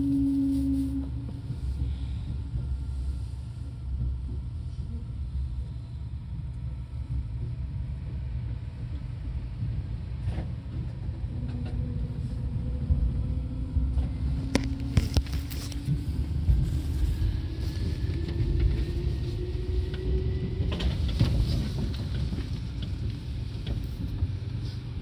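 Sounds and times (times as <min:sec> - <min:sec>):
electric train rumble: 0:00.0 - 0:25.0.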